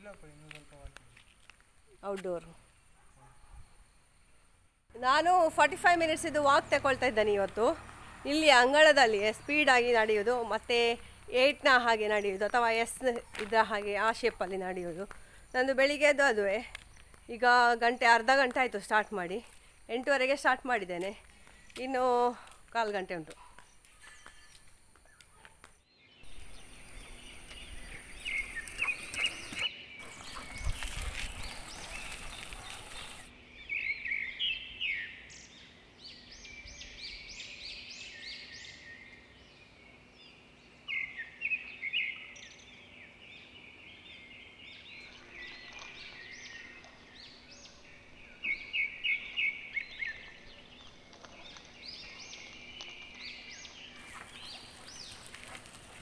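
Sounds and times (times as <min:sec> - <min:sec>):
birds chirping: 0:02.4 - 0:56.0.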